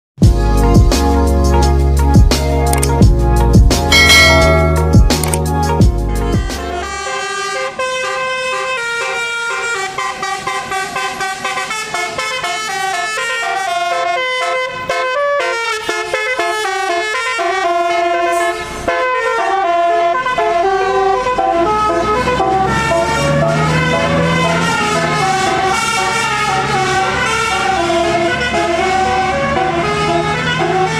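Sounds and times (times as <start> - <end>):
musical bus horn melody: 3.9 - 30.9.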